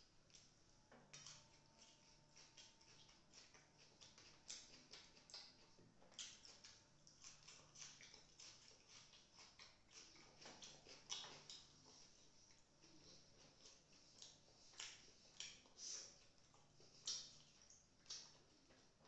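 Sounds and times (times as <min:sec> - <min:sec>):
close-miked chewing: 0:00.0 - 0:19.0
wet mouth clicks: 0:01.1 - 0:18.8.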